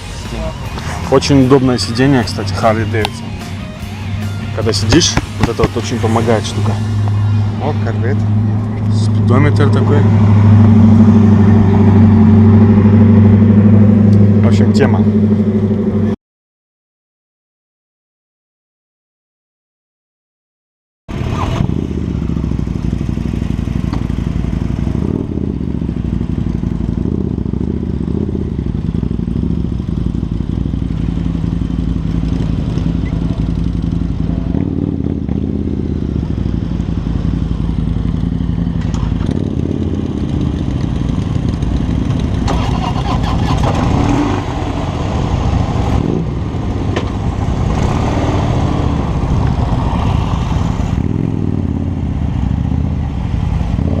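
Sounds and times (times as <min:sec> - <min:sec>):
motorcycle engine revving: 0:00.0 - 0:16.2, 0:21.1 - 0:54.0.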